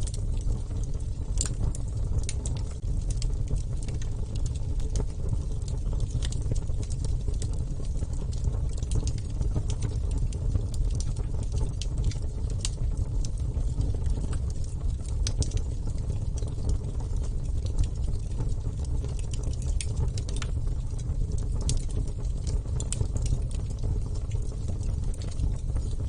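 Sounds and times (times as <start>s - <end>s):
bonfire flame rumble: 0.0s - 26.0s
fire crackling and popping: 0.0s - 26.0s.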